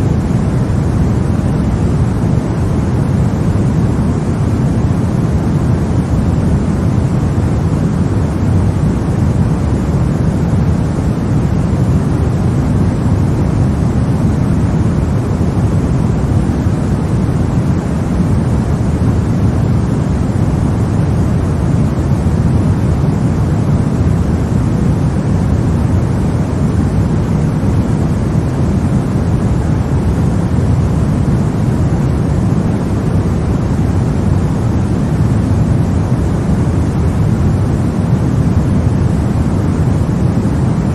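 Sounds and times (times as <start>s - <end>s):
deep rushing white noise: 0.0s - 40.9s.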